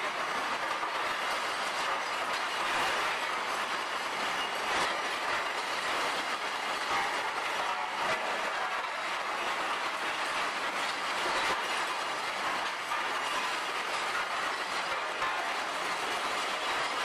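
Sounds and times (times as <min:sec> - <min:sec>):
metal pieces clattering in rotating drum: 0:00.2 - 0:17.0.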